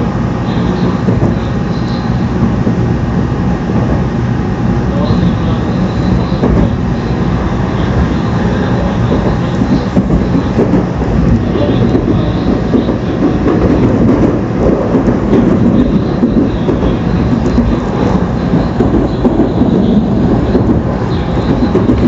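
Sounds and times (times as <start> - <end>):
high-speed train rumble and rush: 0.0 - 22.0.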